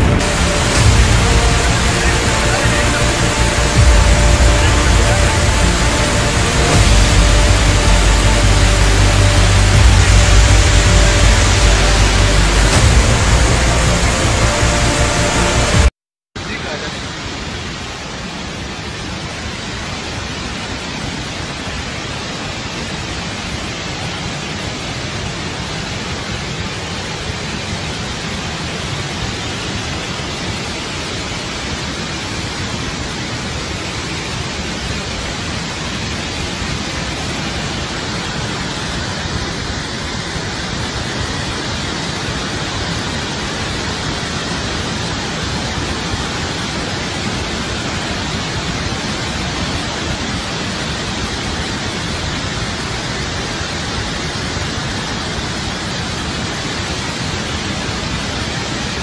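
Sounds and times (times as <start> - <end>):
water roaring from spillway: 0.0 - 59.0.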